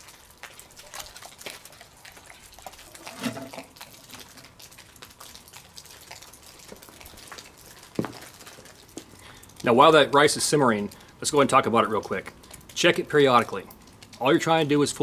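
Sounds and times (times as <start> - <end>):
rice simmering with pops: 0.0 - 15.0.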